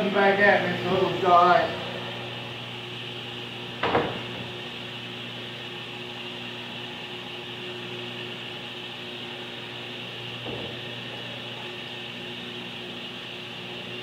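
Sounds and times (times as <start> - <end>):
shop fan humming: 0.0 - 14.0.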